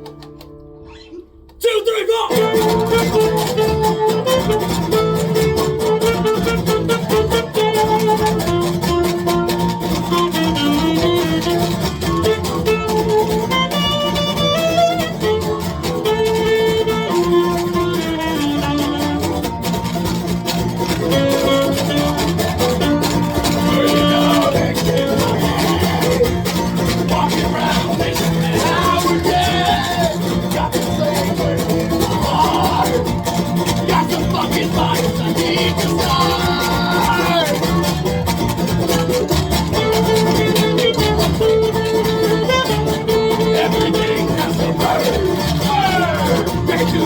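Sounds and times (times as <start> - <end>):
folk band playing instrumental: 2.3 - 47.0.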